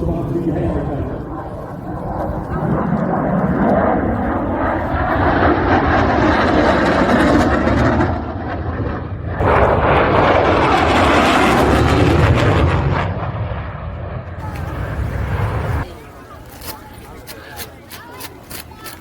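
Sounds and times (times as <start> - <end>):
aircraft engine roar: 0.0 - 18.8.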